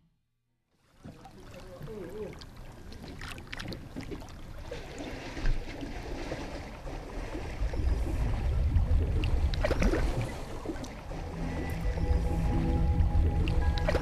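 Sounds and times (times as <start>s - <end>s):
underwater water rumble: 0.8s - 14.0s.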